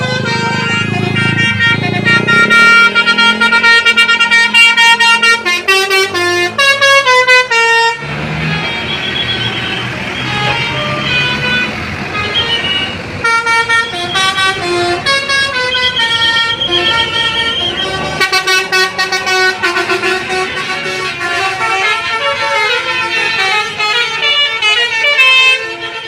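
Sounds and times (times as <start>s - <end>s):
engine and road noise: 0.0s - 26.0s
musical bus horn tune: 0.0s - 26.0s.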